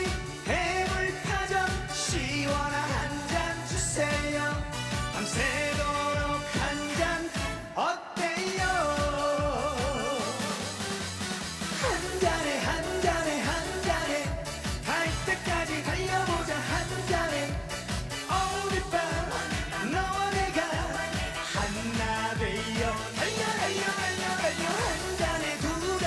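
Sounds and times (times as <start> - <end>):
trot music over sound system: 0.0 - 26.0.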